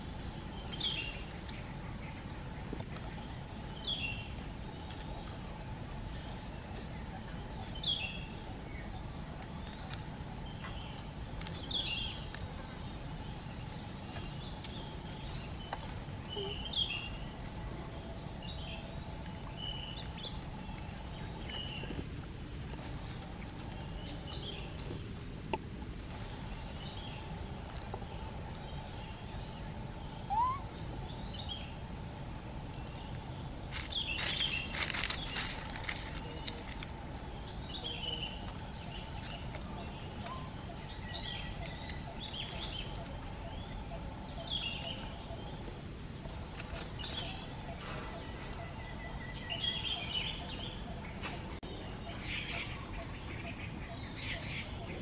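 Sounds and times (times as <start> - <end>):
small birds chirping: 0.0 - 22.2, 22.8 - 55.0
steady low rumble: 0.0 - 55.0.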